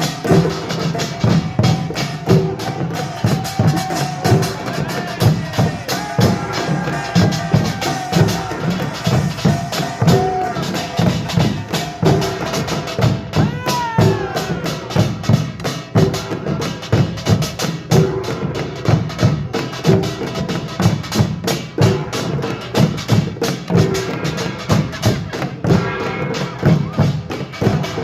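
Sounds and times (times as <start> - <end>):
drum beats: 0.0 - 28.0.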